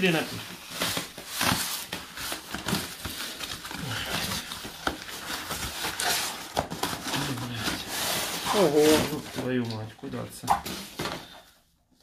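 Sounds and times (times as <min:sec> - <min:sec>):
wrapping paper rustling and crinkling: 0:00.0 - 0:11.5.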